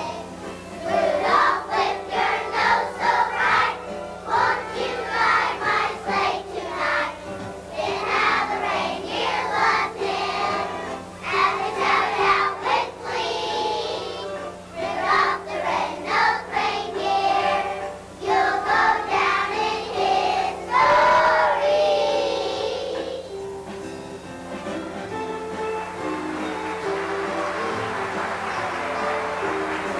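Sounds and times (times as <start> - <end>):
children's choir singing: 0.0 - 23.7, 26.0 - 29.9
musical accompaniment: 0.0 - 29.9.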